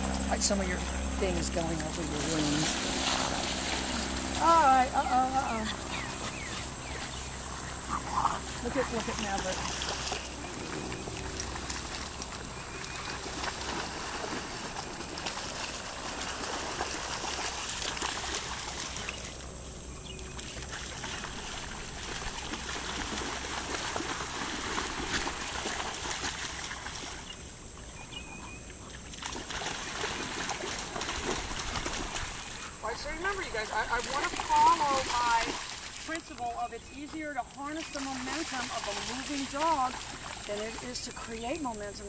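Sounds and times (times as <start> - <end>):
dogs splashing through water: 0.0 - 42.0.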